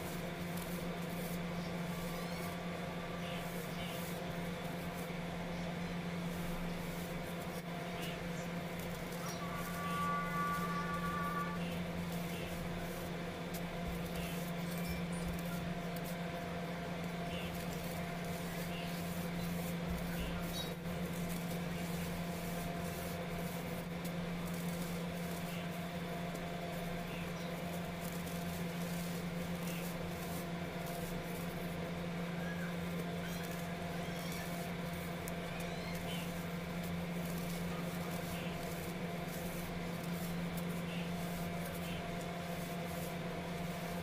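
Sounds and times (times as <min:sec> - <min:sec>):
gritty powder crunching: 0:00.0 - 0:44.0
steady low hum: 0:00.0 - 0:44.0.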